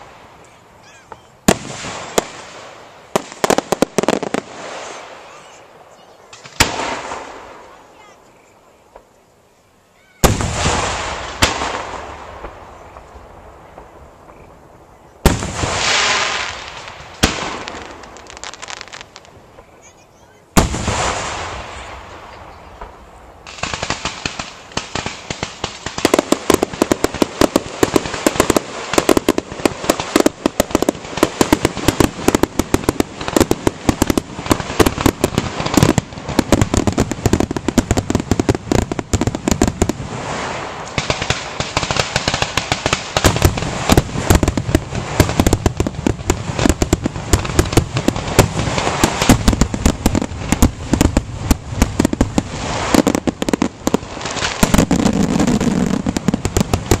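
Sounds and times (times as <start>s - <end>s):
firework crackling: 0.0s - 9.2s, 10.0s - 57.0s.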